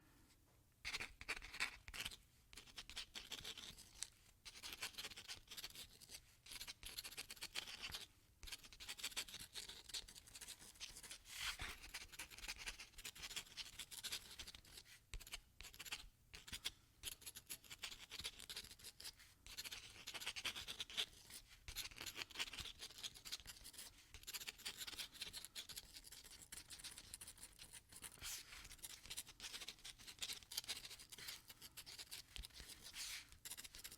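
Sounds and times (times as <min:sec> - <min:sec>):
pen scratching on paper: 0:00.9 - 0:33.9.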